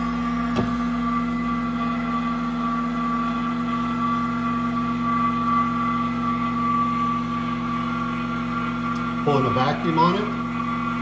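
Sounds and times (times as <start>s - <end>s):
vacuum sealer pump humming: 0.0s - 11.0s.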